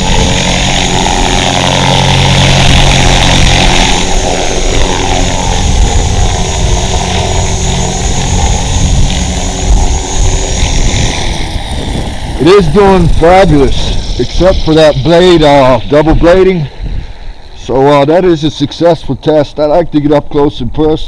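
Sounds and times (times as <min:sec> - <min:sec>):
rc helicopter whine and rotor buzz: 0:00.0 - 0:21.0.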